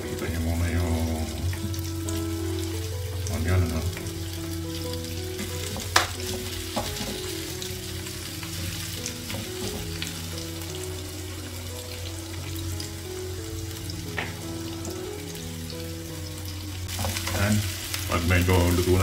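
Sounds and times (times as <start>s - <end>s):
onions sizzling in oil: 0.0s - 19.0s
quiet background music: 0.0s - 19.0s.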